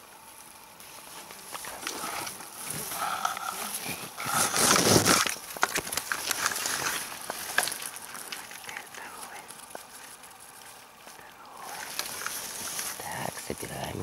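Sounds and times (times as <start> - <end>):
crackles: 0.0 - 14.0
grass and plants rustling: 0.0 - 14.0.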